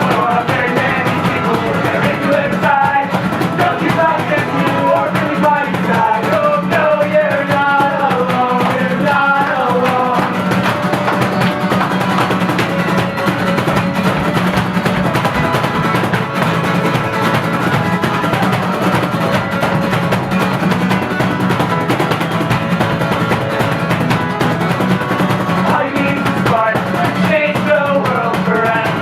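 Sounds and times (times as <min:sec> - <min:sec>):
drums keeping a steady beat: 0:00.0 - 0:29.0
strummed acoustic guitar: 0:00.0 - 0:29.0.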